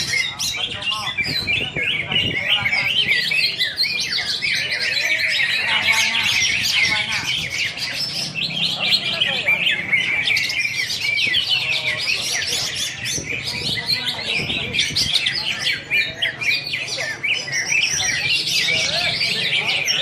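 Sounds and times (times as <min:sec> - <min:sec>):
bird singing chirps and trills: 0:00.0 - 0:20.0.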